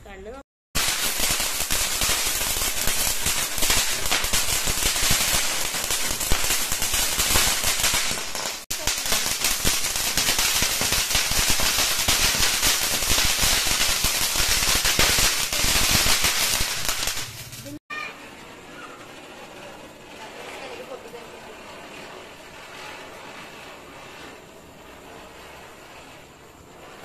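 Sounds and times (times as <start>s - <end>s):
fountain fireworks crackling hiss: 0.8s - 27.0s.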